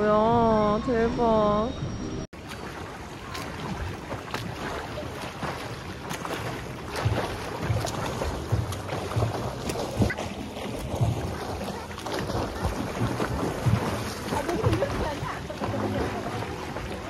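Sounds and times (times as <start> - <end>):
low water thumps: 2.4 - 17.0
water splashing from swimmer: 2.4 - 17.0.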